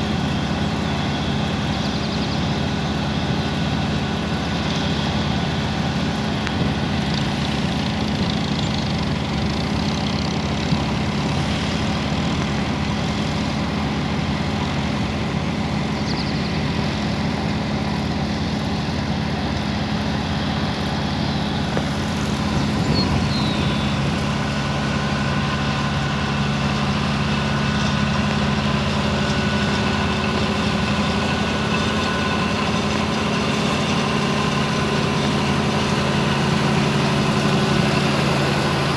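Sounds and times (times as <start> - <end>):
heavy engine humming steadily: 0.0 - 38.9.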